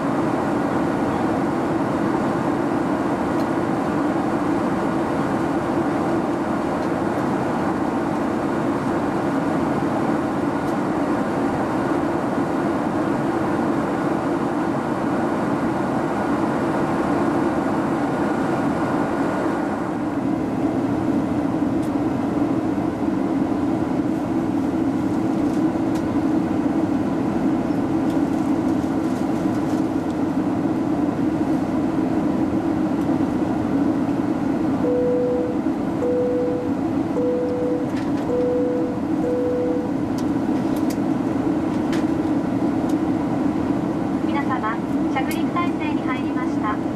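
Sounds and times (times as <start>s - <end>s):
airliner cabin drone: 0.0s - 46.9s.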